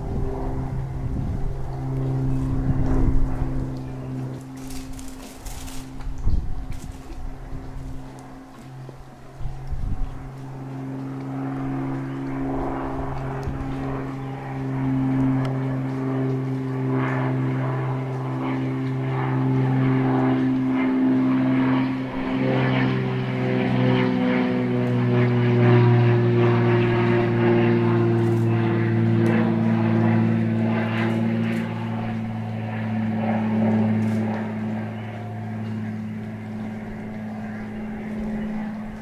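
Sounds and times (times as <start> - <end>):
propeller airplane drone: 0.0 - 39.0.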